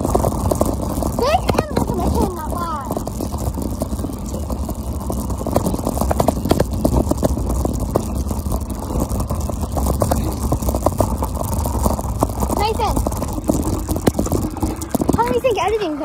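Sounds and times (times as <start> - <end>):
scooter wheels on gravel: 0.0 - 16.0.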